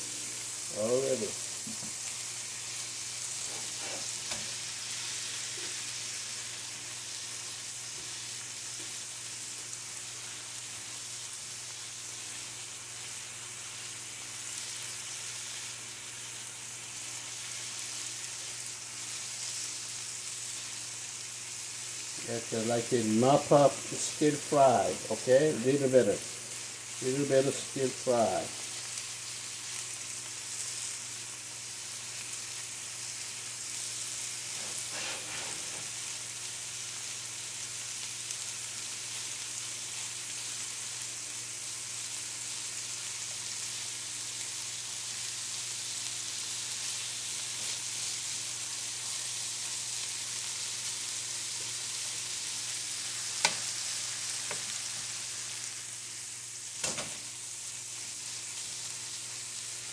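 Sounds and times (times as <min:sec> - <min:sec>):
meat and cabbage sizzling in pan: 0:00.0 - 0:59.9.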